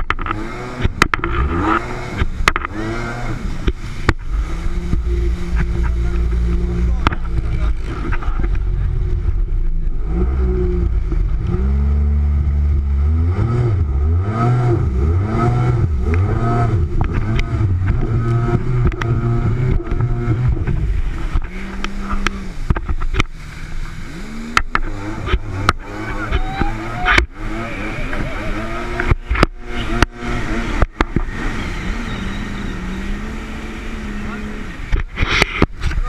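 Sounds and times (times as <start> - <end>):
jet ski engine running: 0.0 - 36.0
water and wind noise: 0.0 - 36.0.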